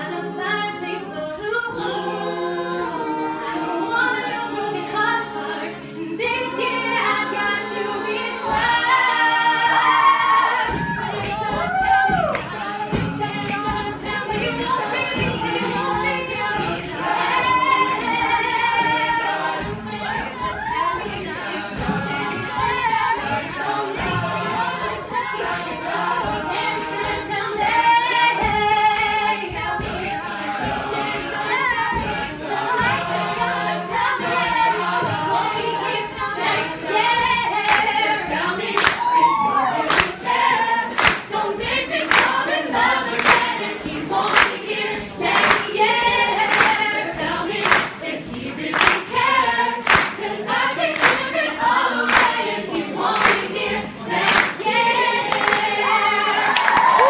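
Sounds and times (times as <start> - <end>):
a cappella group singing: 0.0 - 57.0.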